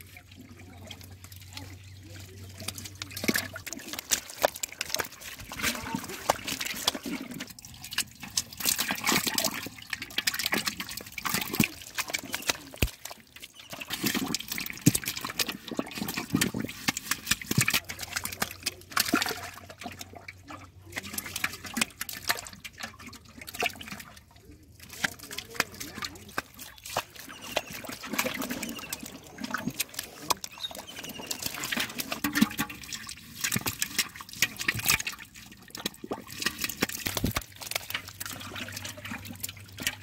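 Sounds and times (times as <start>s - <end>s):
fish splashing in water: 0.0s - 40.0s.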